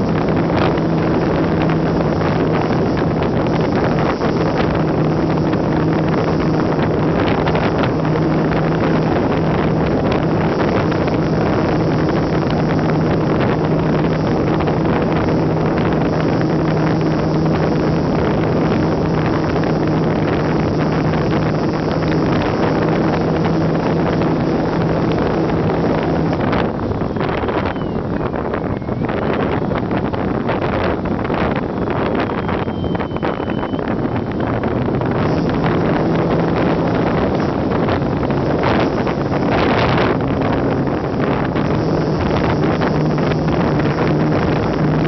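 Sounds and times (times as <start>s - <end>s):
electric motor and propeller: 0.0s - 45.0s
wind rushing over microphone: 0.0s - 45.0s.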